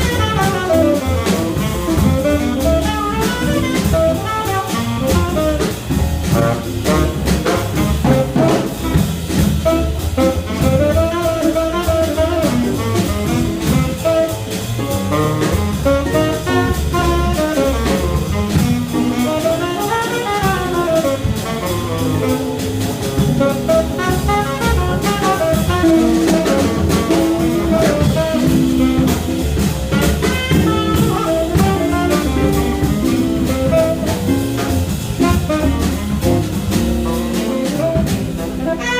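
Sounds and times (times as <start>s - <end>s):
drum kit: 0.0s - 38.9s
jazz lead melody: 0.0s - 38.9s
walking bass line: 0.0s - 38.9s.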